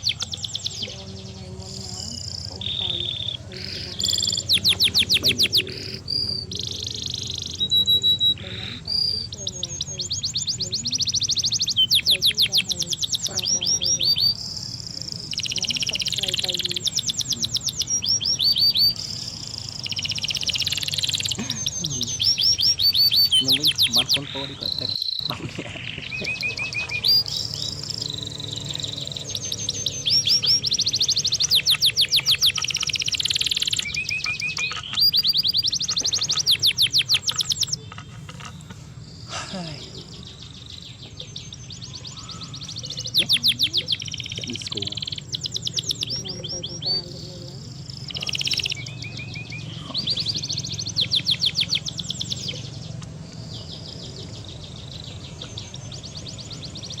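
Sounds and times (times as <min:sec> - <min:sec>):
low steady hum: 0:00.0 - 0:57.0
songbird chirping and trilling: 0:00.0 - 0:57.0.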